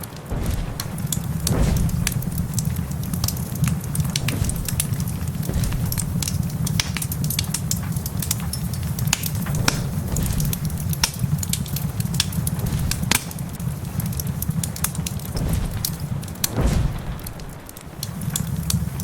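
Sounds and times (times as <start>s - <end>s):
fire crackling and popping: 0.0s - 19.0s
fire rumbling: 0.0s - 19.0s
rain hissing: 0.0s - 19.0s.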